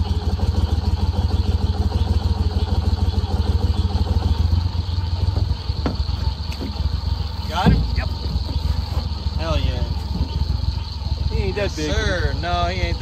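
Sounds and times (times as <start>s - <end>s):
boat motor engine rumble: 0.0s - 13.0s.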